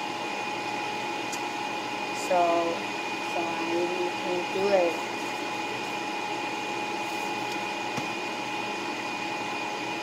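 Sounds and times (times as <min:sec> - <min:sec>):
fan motor whirring hum: 0:00.0 - 0:10.0.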